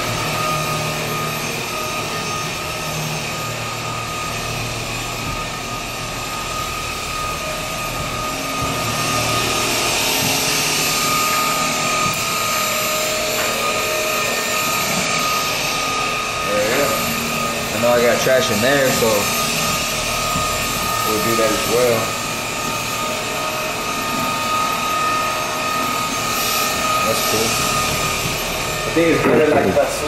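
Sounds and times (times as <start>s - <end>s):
stick vacuum running: 0.0s - 30.0s.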